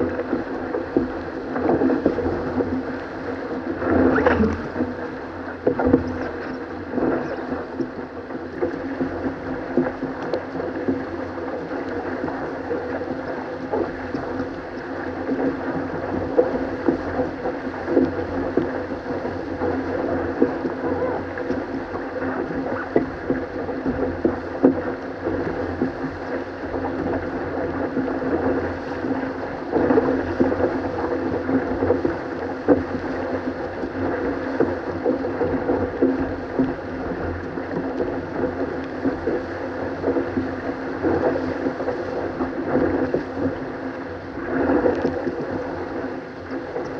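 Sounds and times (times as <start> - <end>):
water rushing along hull: 0.0 - 46.9.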